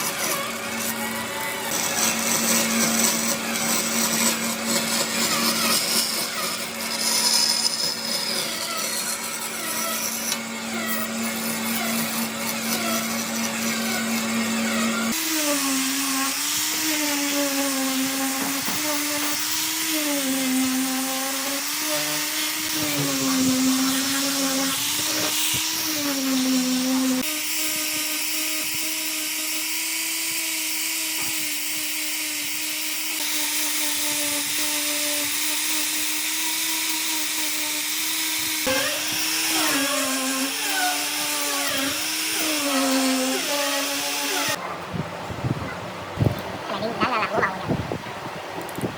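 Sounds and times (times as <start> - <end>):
power tool motor running: 0.0 - 44.6.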